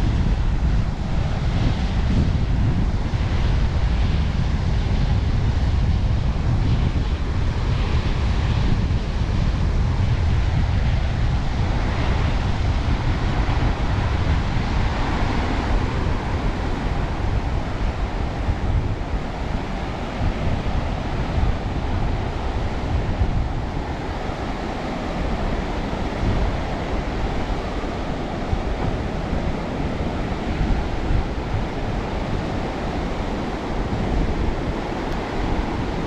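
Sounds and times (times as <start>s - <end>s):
breaking sea surf: 0.0s - 36.0s
wind buffeting microphone: 0.0s - 36.0s.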